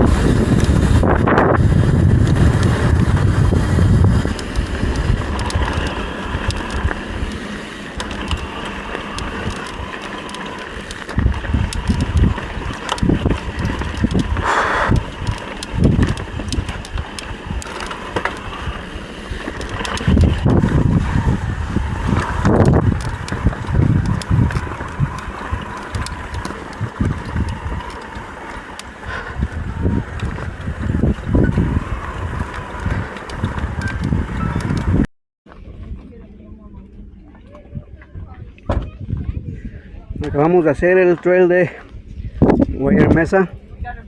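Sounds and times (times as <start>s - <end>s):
bike clicks and rattles: 0.0s - 36.1s
bike tyre noise: 0.0s - 43.9s
wind buffeting microphone: 0.0s - 44.0s.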